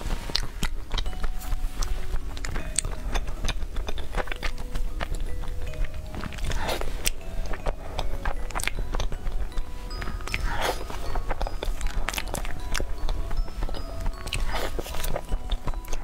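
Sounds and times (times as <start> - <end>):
chocolate crunching while chewed: 0.0 - 16.0.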